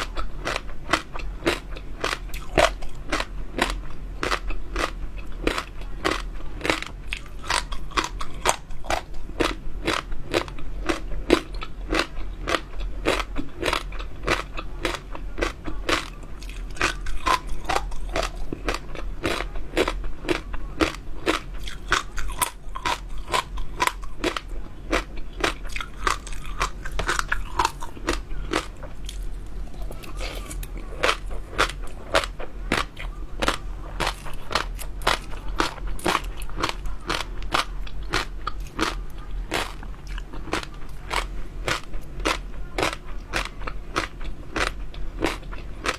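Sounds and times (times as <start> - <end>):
chewing crunchy food: 0.0 - 45.9.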